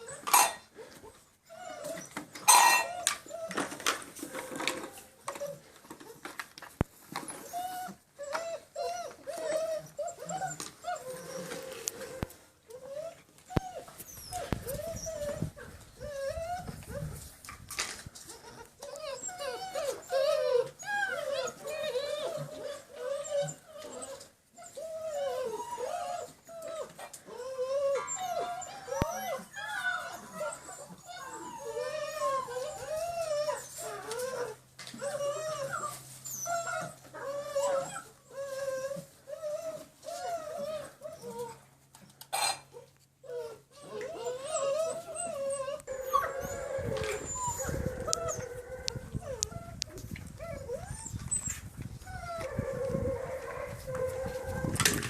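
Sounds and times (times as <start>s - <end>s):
puppies whining: 0.0s - 55.0s.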